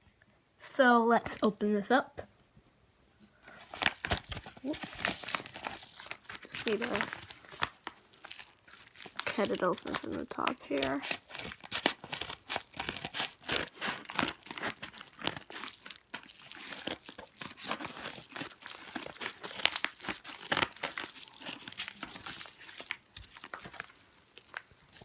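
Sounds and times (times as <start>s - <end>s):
packaging crinkling: 3.4s - 25.0s.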